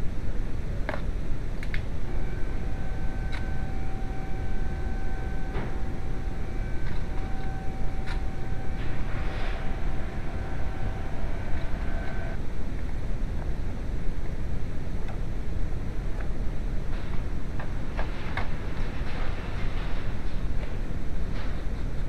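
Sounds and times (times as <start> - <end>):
faint steady whine: 0.0 - 22.0.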